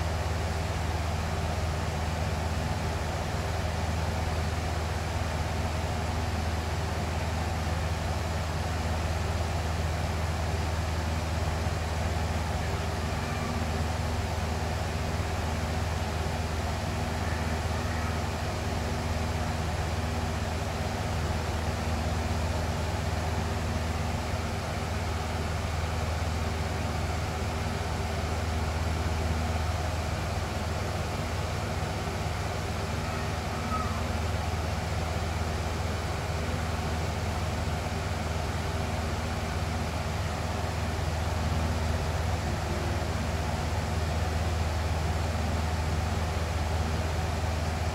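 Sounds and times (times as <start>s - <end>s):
box fan running: 0.0s - 47.9s.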